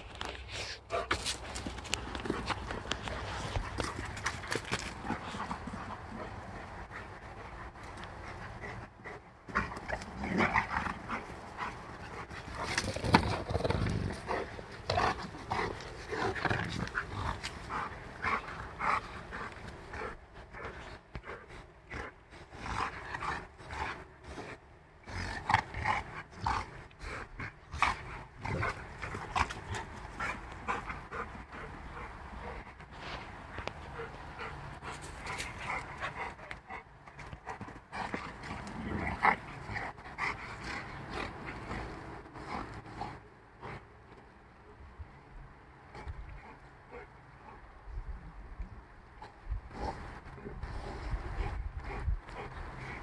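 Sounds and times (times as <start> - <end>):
dogs playing rough: 0.0 - 44.3, 49.1 - 53.0.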